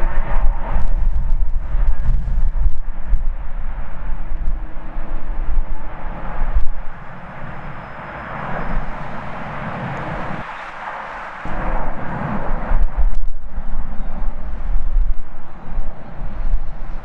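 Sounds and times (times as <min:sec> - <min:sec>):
jet airliner engines rushing: 0:00.0 - 0:17.0
wind buffeting microphone: 0:00.0 - 0:17.0.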